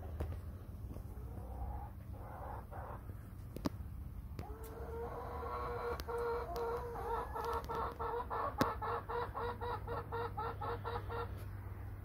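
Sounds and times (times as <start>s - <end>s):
hen clucking: 1.0s - 3.4s, 4.3s - 11.6s.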